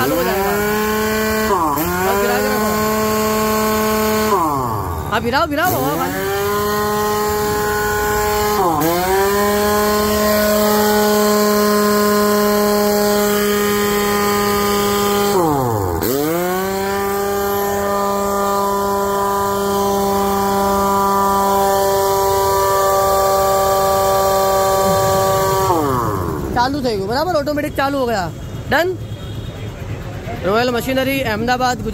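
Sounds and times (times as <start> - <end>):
air impact wrench whining: 0.0 - 31.8.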